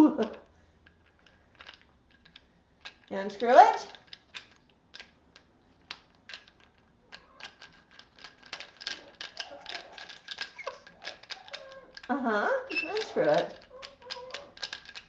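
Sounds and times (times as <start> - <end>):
beak clicking on toy: 0.8 - 15.0.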